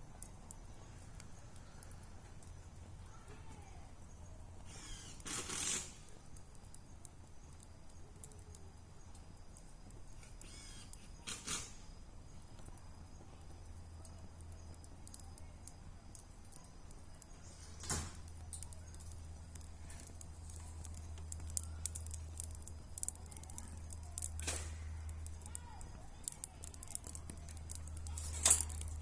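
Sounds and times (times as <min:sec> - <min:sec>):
bonfire crackling: 0:00.0 - 0:29.0
fire pops and snaps: 0:00.0 - 0:29.0
steady low hum: 0:00.0 - 0:29.0.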